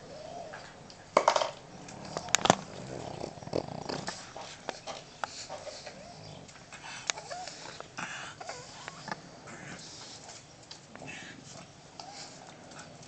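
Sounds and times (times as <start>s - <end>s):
dog snuffling and snorting: 1.8s - 13.0s.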